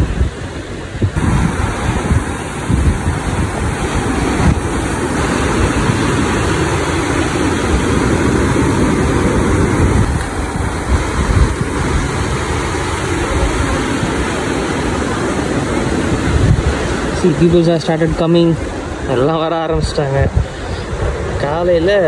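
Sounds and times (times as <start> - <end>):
sea surf breaking on beach: 0.0 - 22.0
wind rumbling on microphone: 0.0 - 22.0.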